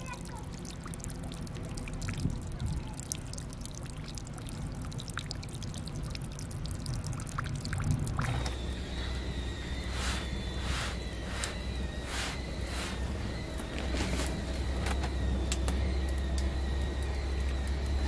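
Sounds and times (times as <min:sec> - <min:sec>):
steady low hum: 0:00.0 - 0:18.0
water pouring and trickling: 0:00.0 - 0:18.0.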